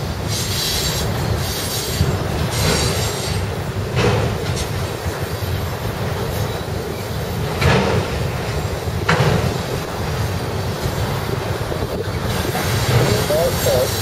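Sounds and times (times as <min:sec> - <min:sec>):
freight train wheels rumbling: 0:00.0 - 0:14.0
wind buffeting microphone: 0:00.0 - 0:14.0.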